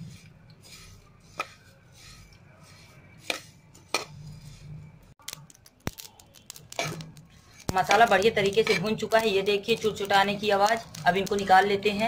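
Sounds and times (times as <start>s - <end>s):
seeds scraping and rustling in pan: 0.0s - 12.0s.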